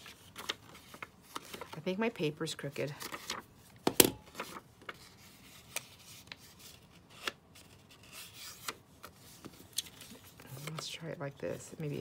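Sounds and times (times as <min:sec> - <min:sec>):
paper rustling: 0:00.0 - 0:01.9, 0:02.8 - 0:12.0.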